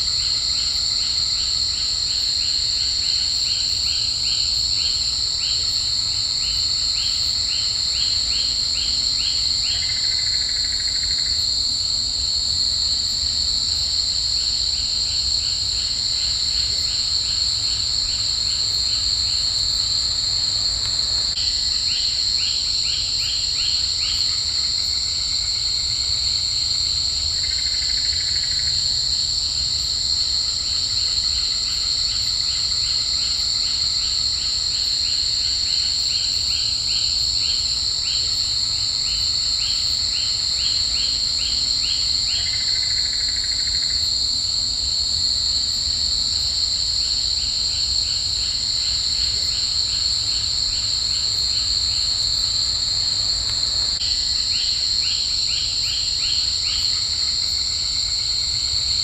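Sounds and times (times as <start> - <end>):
insect shrill drone: 0.0 - 59.0
rapid insect chirps: 0.0 - 59.0.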